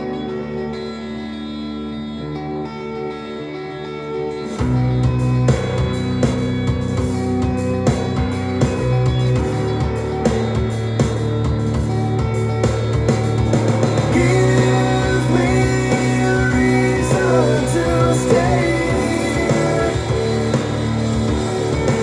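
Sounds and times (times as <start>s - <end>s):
rock song from vinyl record: 0.0s - 22.0s.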